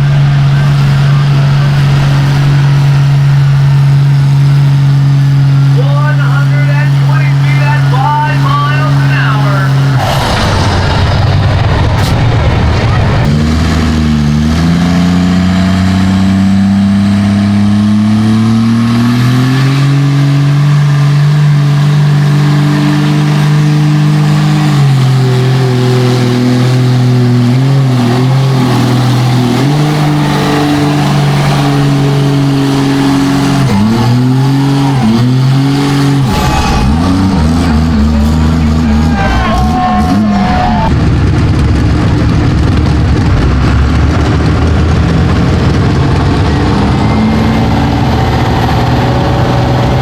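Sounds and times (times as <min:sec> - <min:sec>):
truck engine revving under load: 0:00.0 - 0:50.0.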